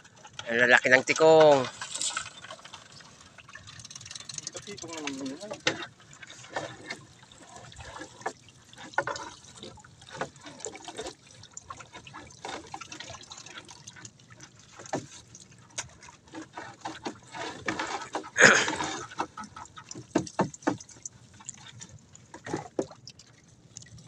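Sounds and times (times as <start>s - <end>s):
seawater splashing and dripping: 0.0s - 24.0s.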